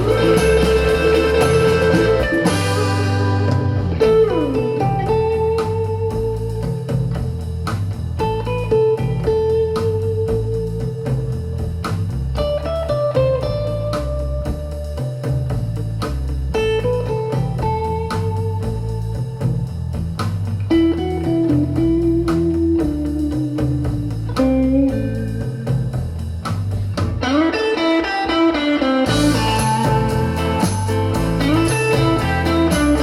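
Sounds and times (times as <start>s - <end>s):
blues guitar and bass music: 0.0s - 33.0s.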